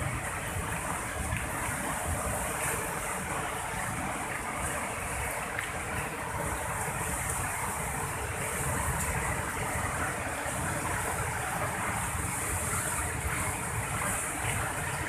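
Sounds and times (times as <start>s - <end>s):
fast-flowing water rushing: 0.0s - 15.0s.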